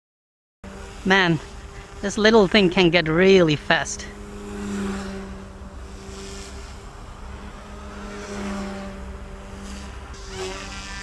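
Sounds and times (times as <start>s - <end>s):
rc helicopter motors humming: 0.6s - 11.0s.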